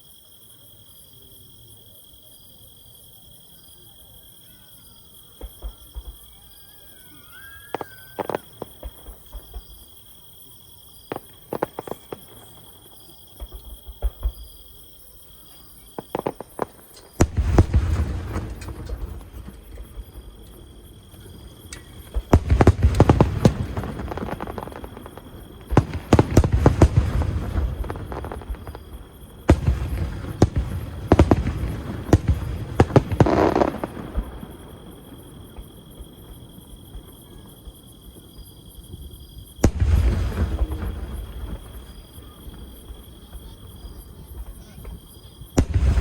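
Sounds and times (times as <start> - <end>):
fireworks booming and crackling: 5.2 - 46.0.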